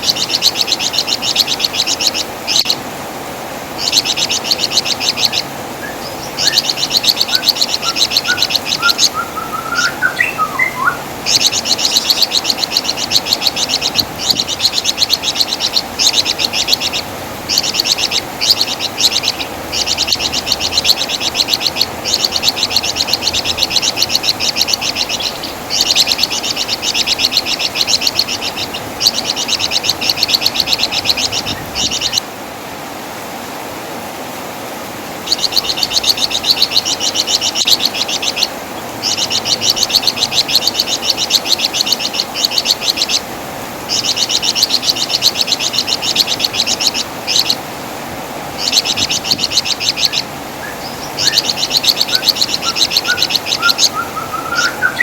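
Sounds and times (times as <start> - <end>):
songbird chattering: 0.0 - 2.8, 3.8 - 32.2, 35.2 - 43.3, 43.9 - 47.6, 48.6 - 55.0.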